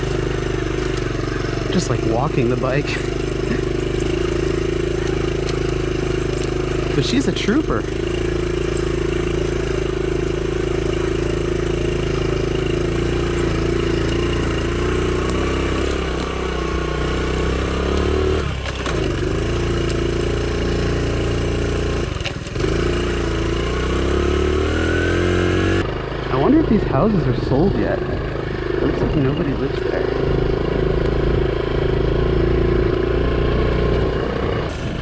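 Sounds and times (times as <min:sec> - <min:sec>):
small motorcycle engine running: 0:00.0 - 0:35.0.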